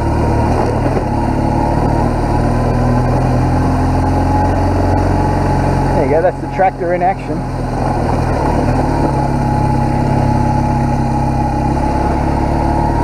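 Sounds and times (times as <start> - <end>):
motorcycle engine climbing hill: 0.0 - 13.0.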